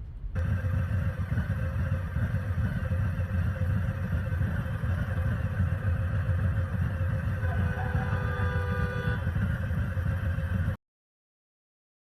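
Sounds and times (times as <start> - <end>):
road and engine noise: 0.0 - 10.8.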